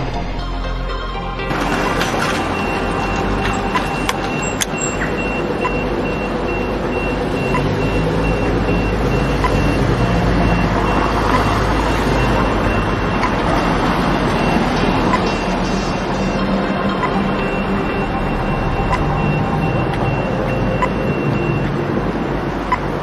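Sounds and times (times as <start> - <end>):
traffic rumble: 0.0 - 23.0
crossing signal high beeps: 1.5 - 23.0.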